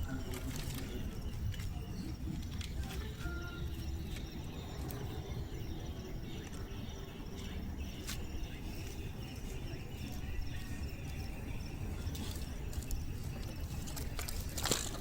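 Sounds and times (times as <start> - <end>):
faint chirp: 0.0 - 15.0.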